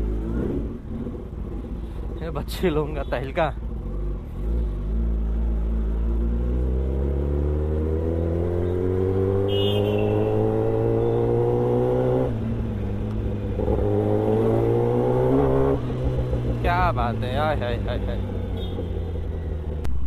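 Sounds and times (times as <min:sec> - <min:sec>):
motorcycle engine accelerating: 0:00.0 - 0:01.8, 0:03.6 - 0:20.0.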